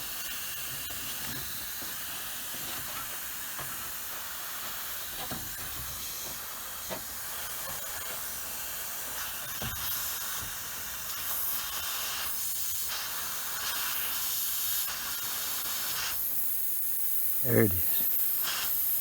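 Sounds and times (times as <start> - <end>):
refrigerant hissing from leak: 0.0 - 19.0.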